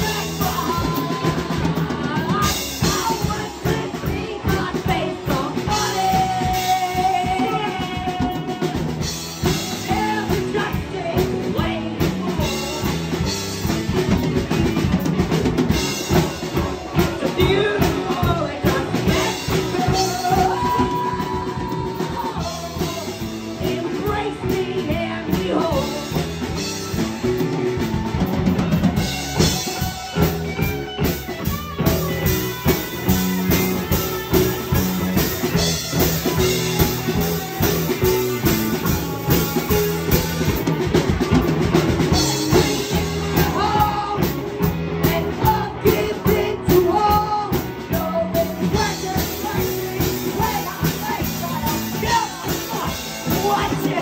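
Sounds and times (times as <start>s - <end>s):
drum kit beat: 0.0s - 54.0s
electric bass: 0.0s - 54.0s
electric guitar: 0.0s - 54.0s.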